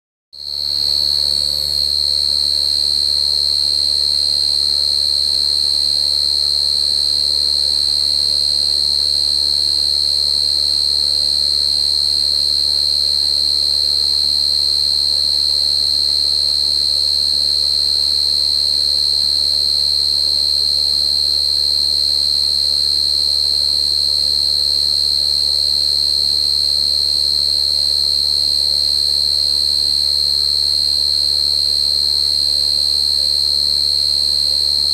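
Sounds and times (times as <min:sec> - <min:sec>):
cricket trilling: 0:00.4 - 0:34.9.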